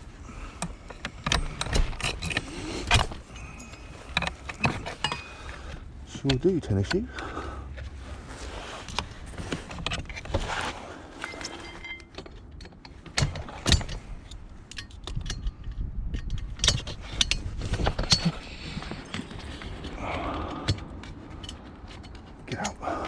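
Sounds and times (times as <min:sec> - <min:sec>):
steady low rumble: 0:00.0 - 0:23.0
metal clicks clanks and rattles: 0:00.3 - 0:07.3, 0:11.2 - 0:23.0.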